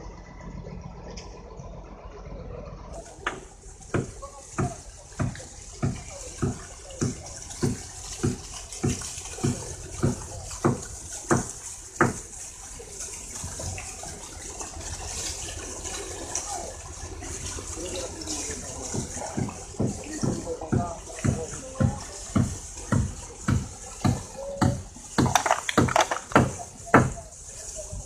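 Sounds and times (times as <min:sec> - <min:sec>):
water gushing from pipe: 0:02.9 - 0:28.0.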